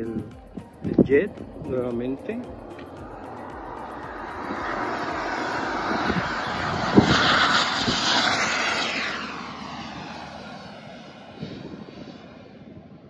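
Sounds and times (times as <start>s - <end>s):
model jet engine flying past: 0.0s - 13.0s.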